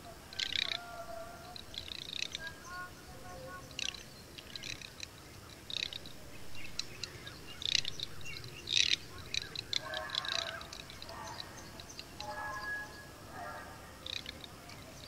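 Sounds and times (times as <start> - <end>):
ducks high calls: 0.0 - 15.0.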